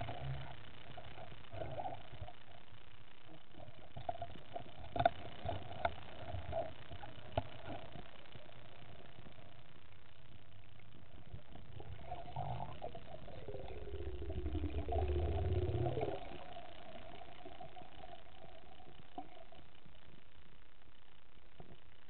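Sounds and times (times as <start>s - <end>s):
muffled underwater hiss: 0.0s - 22.0s.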